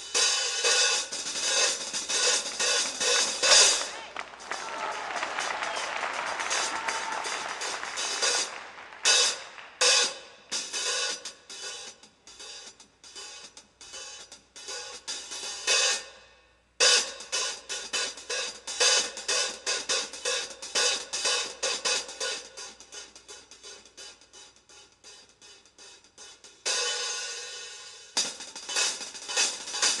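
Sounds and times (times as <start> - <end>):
hi-hat played with drumsticks: 0.0 - 30.0.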